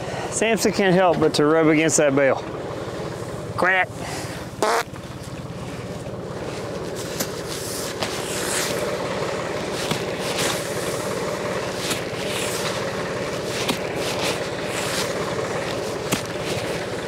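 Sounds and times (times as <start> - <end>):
diesel tractor idling: 0.0 - 17.0.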